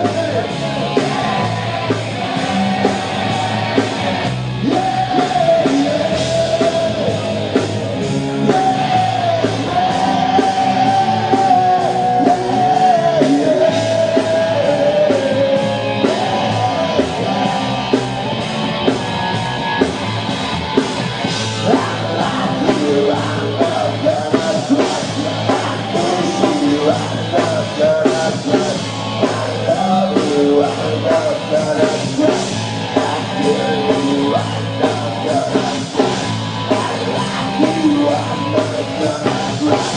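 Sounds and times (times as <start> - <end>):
person singing: 0.0 - 18.4, 21.5 - 39.9
rock band playing live: 0.0 - 39.9.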